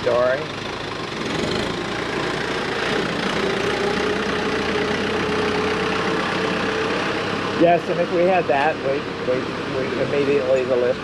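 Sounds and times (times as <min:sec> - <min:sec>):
engine running: 0:00.0 - 0:11.0
steady whine: 0:01.8 - 0:11.0.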